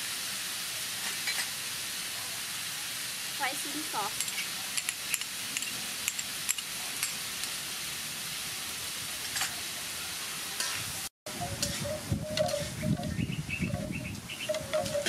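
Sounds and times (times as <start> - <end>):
food sizzling in a wok: 0.0 - 13.1.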